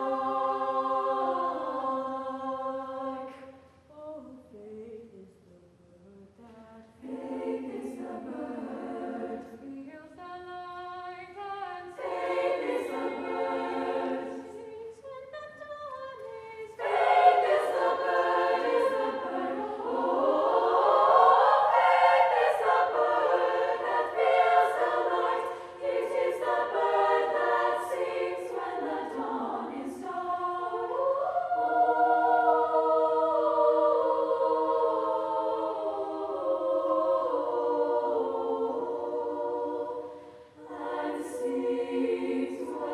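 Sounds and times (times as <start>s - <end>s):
women's choir singing: 0.0s - 42.9s.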